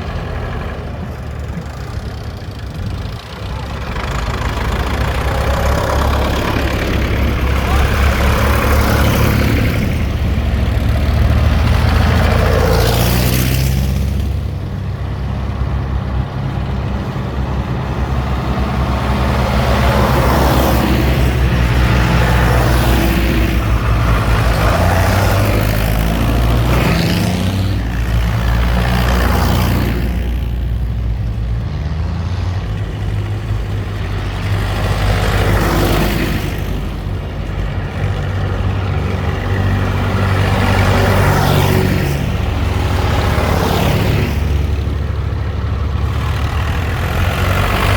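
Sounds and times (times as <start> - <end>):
tractors driving past: 0.0 - 47.9.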